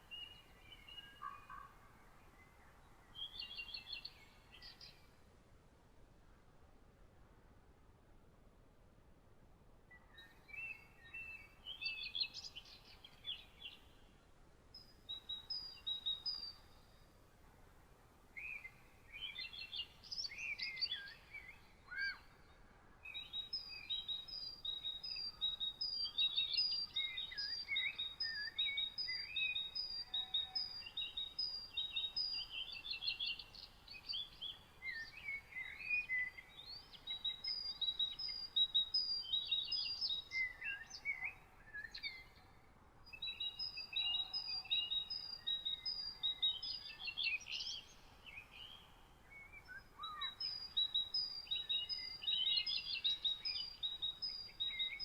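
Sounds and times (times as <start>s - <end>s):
songbirds singing: 0.0s - 5.3s, 9.8s - 55.0s
faint steady hiss: 0.0s - 55.0s.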